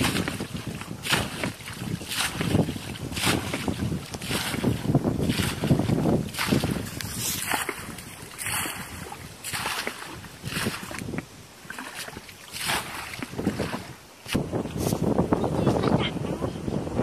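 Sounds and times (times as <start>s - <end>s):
water splashing from bucket: 0.0s - 14.4s.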